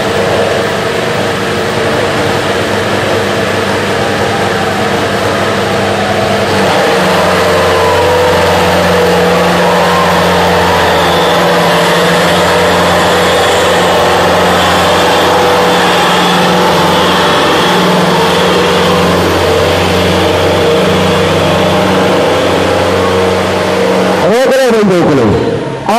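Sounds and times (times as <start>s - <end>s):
diesel tractor engines straining: 0.0s - 25.9s.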